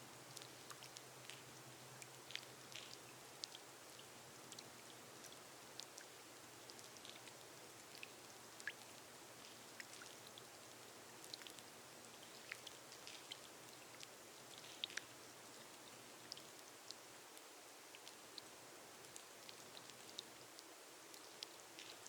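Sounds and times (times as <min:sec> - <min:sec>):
rain on a glass roof: 0:00.0 - 0:22.0.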